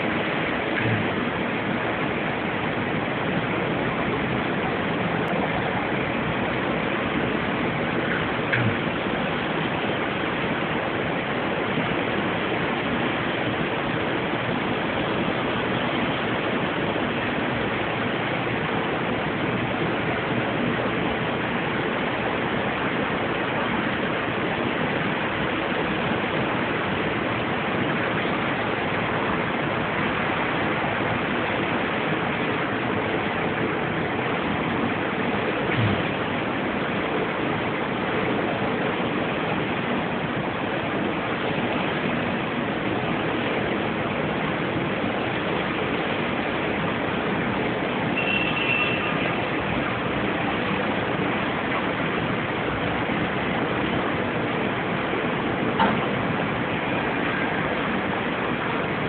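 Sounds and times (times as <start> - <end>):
heavy rain: 0.0 - 59.0
wind: 0.0 - 59.0.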